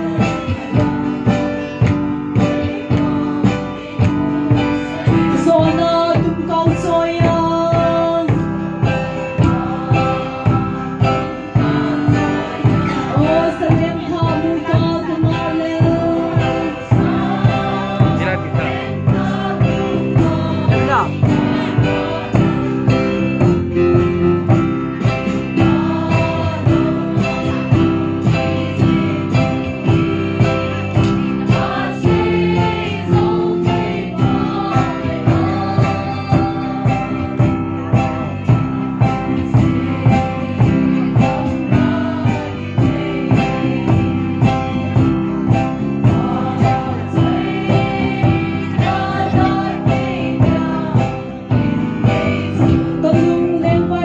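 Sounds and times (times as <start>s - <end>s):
barrel drum beating: 0.0s - 54.0s
women singing a hymn: 0.0s - 54.0s.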